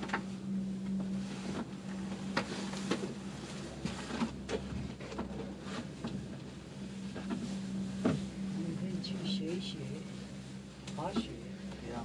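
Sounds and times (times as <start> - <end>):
gondola cabin humming: 0.0 - 12.0.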